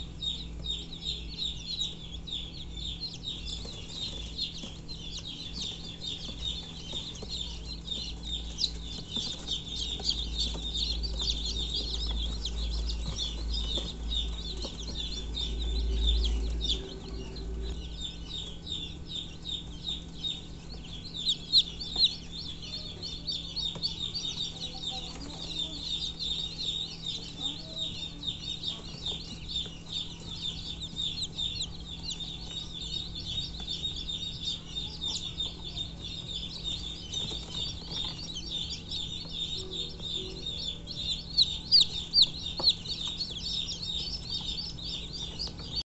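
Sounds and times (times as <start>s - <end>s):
chicks peeping: 0.0s - 45.8s.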